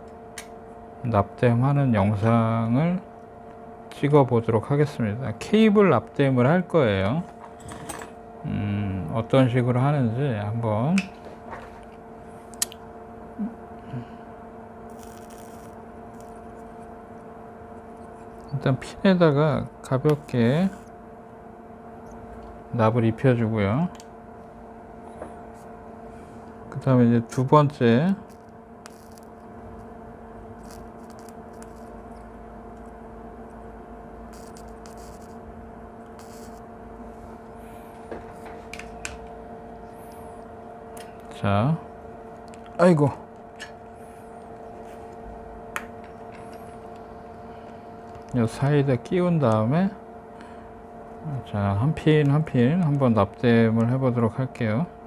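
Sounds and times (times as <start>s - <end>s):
steady electrical hum: 0.0s - 55.0s.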